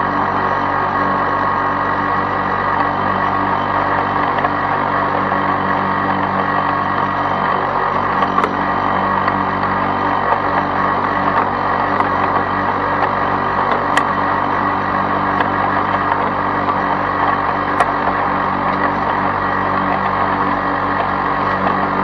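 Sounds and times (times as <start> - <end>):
push mower engine running: 0.0 - 22.0.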